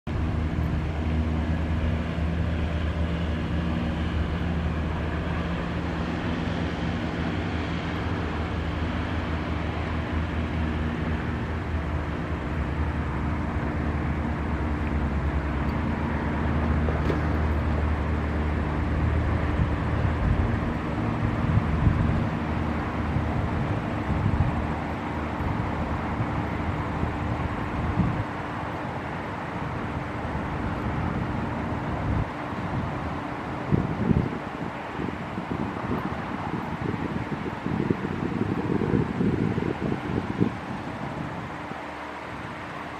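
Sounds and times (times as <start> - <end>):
road traffic engine hum: 0.0 - 42.9.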